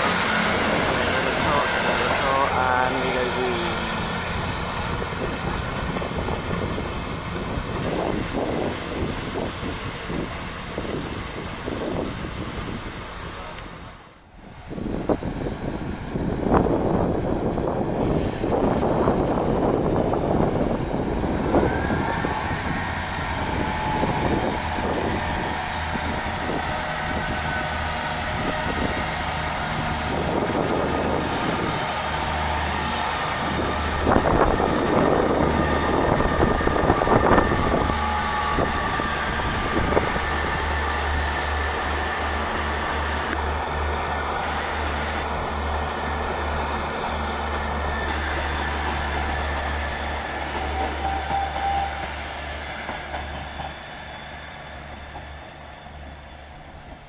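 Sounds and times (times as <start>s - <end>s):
diesel train engines running: 0.0s - 57.0s
train whine: 0.0s - 57.0s.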